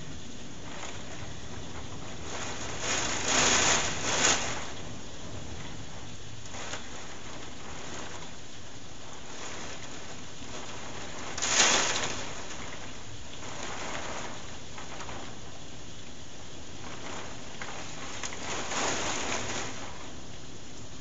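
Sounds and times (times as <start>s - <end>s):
heavy rain hiss: 0.0s - 21.0s.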